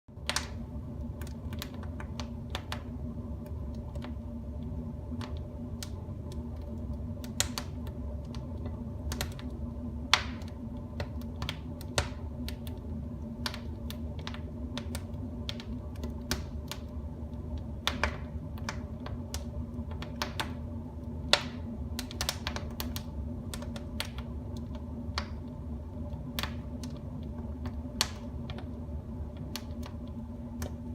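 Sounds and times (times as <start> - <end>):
wood fire crackling and popping: 0.1 - 30.9.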